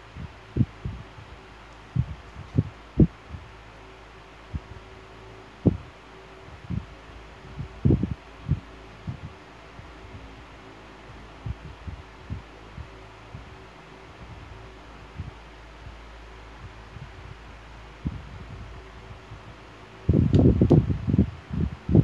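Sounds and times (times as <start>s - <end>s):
dull low thumps: 0.0s - 3.7s, 4.4s - 22.0s
steady low hum: 0.0s - 22.0s.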